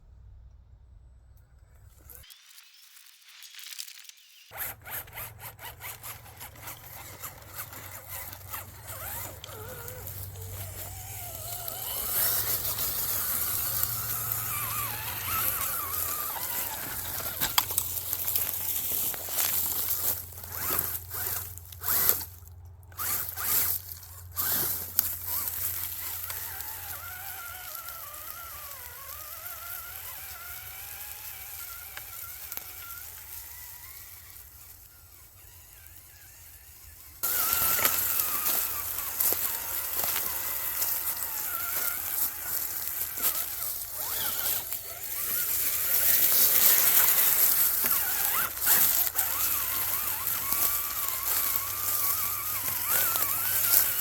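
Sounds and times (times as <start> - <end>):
electric motor and gears whining: 1.4 - 2.8, 3.5 - 54.0.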